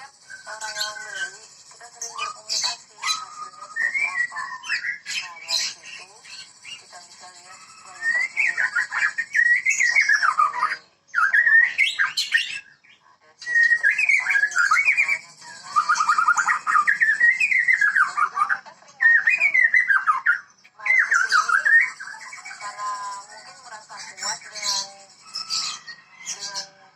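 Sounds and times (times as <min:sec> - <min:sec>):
songbird whistling varied phrases: 0:02.1 - 0:06.9, 0:07.6 - 0:12.8, 0:13.4 - 0:23.3, 0:24.4 - 0:26.6.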